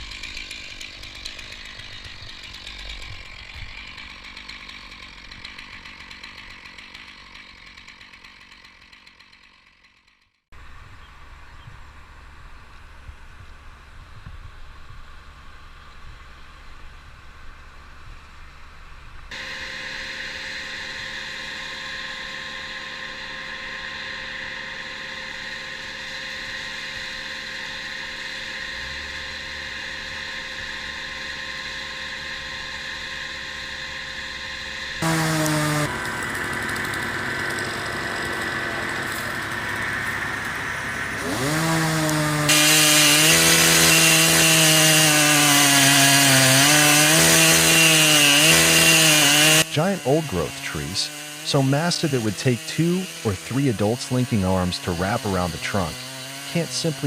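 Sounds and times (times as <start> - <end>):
engine running: 10.6 - 57.0.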